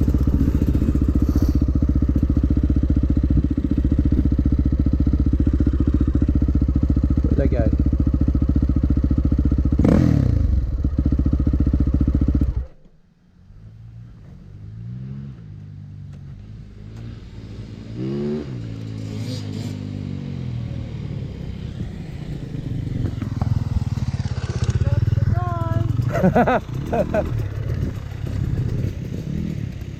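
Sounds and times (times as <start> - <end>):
dirt bike engine revving: 0.0 - 12.7, 16.6 - 29.9
distant dirt bikes revving: 0.0 - 29.9.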